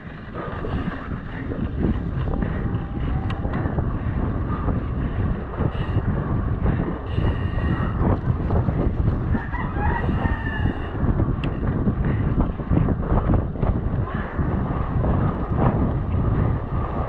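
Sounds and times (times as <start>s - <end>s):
bike rattling over bumps: 0.0s - 17.0s
wind over microphone: 0.0s - 17.0s.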